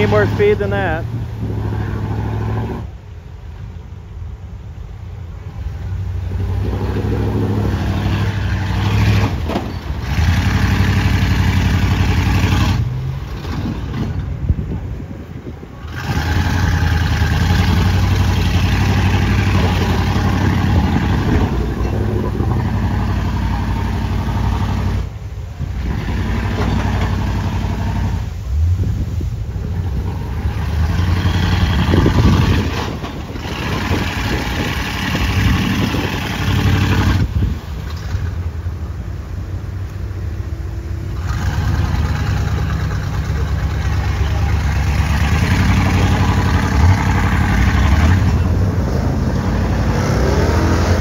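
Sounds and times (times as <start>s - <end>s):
truck engine revving: 0.0s - 3.2s, 5.4s - 51.0s.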